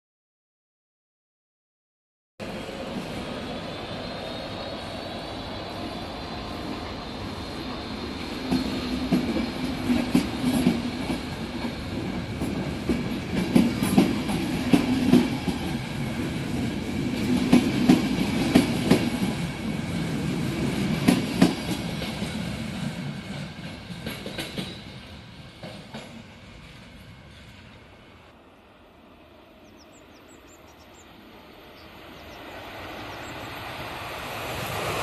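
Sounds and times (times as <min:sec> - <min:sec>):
train rumble: 0:02.4 - 0:35.0.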